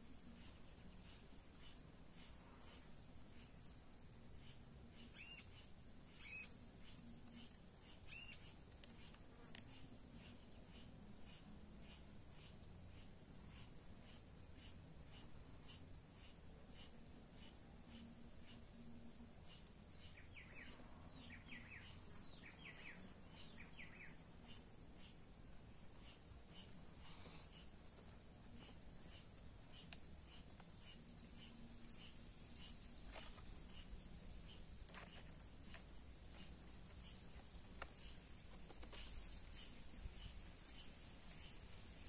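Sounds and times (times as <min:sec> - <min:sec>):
high insect trill: 0:00.0 - 0:42.0
bird chirps: 0:04.4 - 0:41.6.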